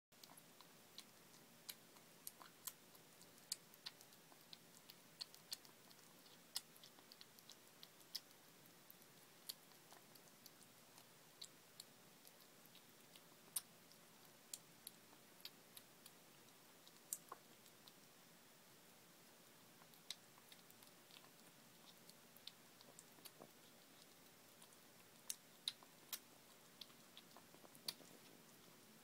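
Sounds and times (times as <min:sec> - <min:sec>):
kitten chewing and licking: 0:00.2 - 0:29.0.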